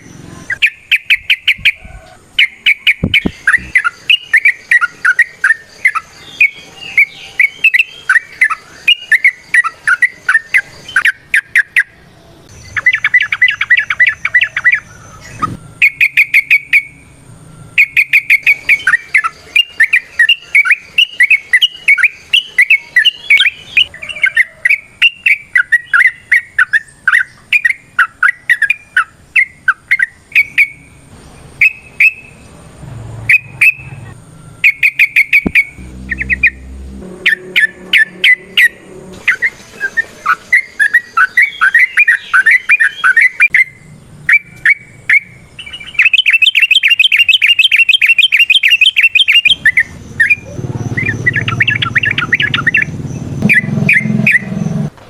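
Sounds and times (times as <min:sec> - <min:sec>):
bulbul chattering song: 0:00.0 - 0:54.9.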